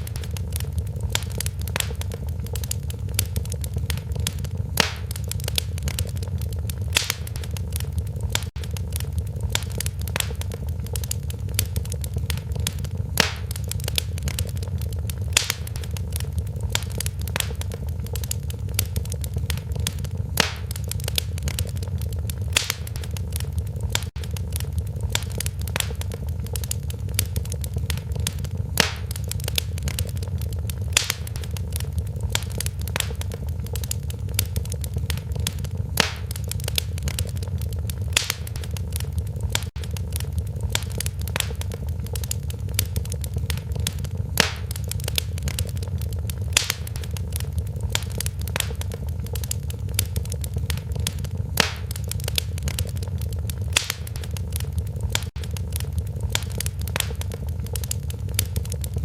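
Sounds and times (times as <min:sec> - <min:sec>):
fire crackling: 0:00.0 - 0:59.0
sharp pops of fire: 0:00.0 - 0:59.0.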